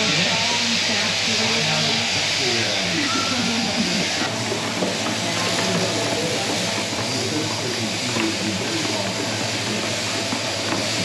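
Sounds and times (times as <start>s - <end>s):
shearing machinery hiss and rattle: 0.0s - 11.0s.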